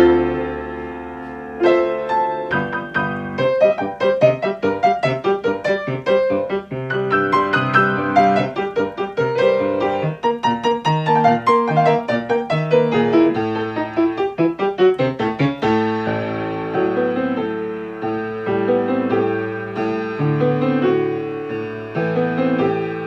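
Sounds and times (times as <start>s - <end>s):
piano playing chords: 0.0s - 23.0s.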